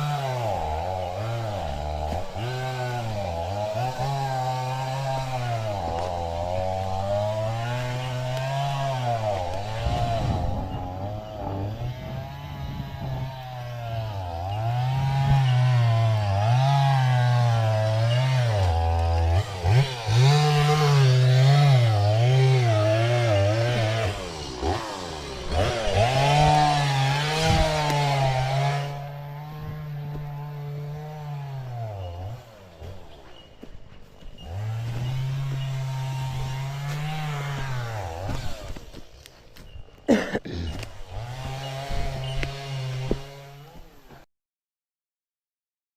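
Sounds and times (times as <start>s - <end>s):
chainsaw cutting wood: 0.0s - 44.2s.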